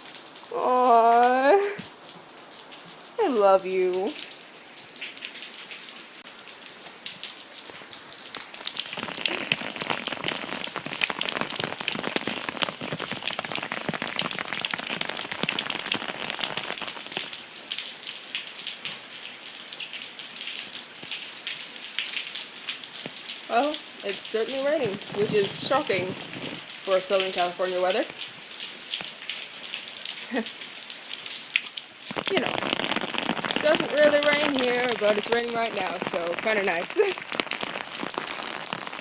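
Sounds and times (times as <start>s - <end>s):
rain falling: 0.0s - 39.0s.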